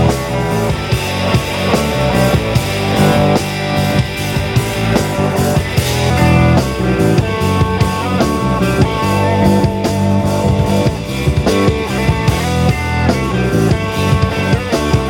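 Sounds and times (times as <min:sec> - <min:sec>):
bass: 0:00.0 - 0:15.0
drums keeping a steady beat: 0:00.0 - 0:15.0
electric guitar notes: 0:00.0 - 0:15.0.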